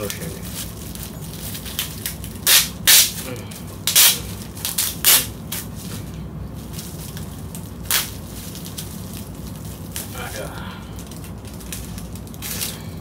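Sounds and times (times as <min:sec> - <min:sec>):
packaging rustling: 0:00.0 - 0:13.0
steady low hum: 0:00.0 - 0:13.0.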